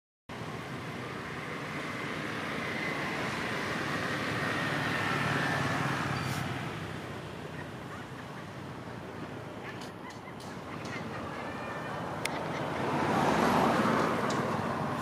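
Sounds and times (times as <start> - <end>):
motor vehicle passing: 0.4 - 15.0.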